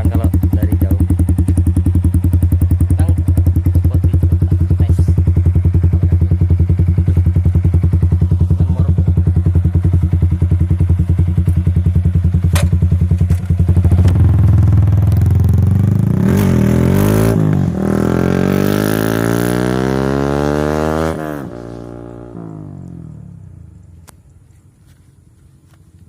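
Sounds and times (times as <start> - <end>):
motorcycle idling and accelerating: 0.0 - 26.0.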